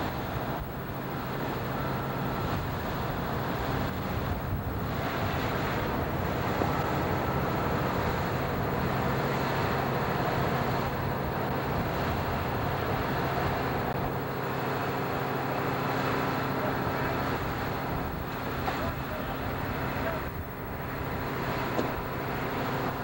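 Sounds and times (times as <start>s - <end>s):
constant rushing noise: 0.0s - 23.0s
vehicle engines humming: 0.0s - 23.0s.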